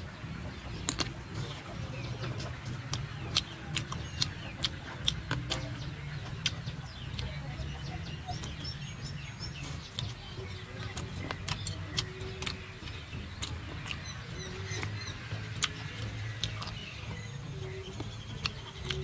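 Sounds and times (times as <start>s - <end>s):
low rumble: 0.0s - 19.0s
chewing clicks: 0.5s - 19.0s
lip smacks: 0.8s - 17.1s, 17.8s - 19.0s.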